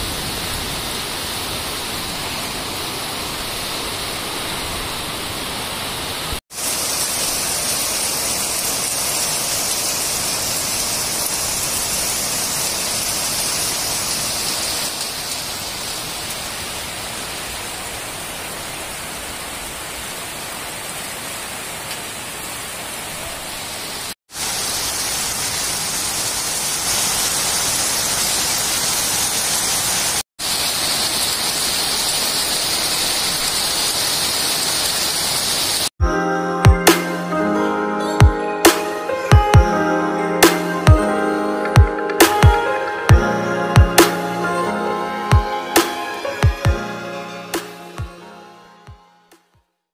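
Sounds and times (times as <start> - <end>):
heavy rain pouring: 0.0 - 35.9, 38.6 - 48.2.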